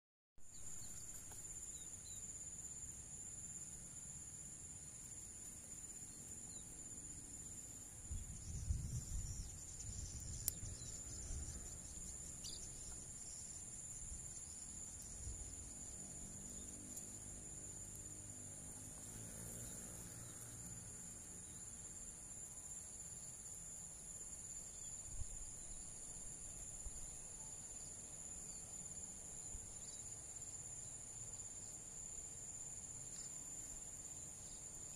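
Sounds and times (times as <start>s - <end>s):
insects trilling: 0.5s - 34.9s.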